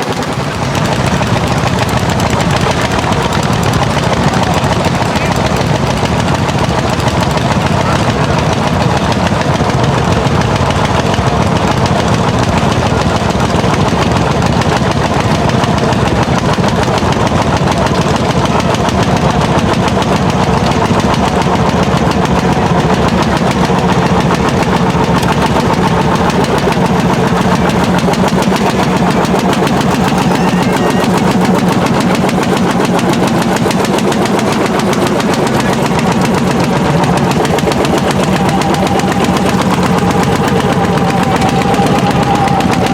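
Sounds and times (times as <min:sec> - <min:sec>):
single-cylinder engine popping: 0:00.0 - 0:42.9.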